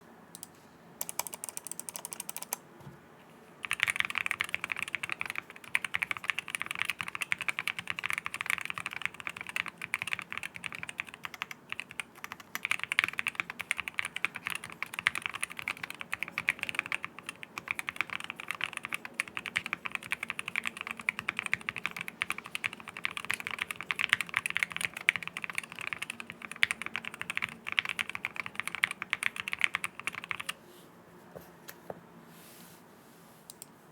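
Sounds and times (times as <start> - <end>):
rapid typing on mechanical keyboard: 0.4 - 2.6, 3.6 - 30.6.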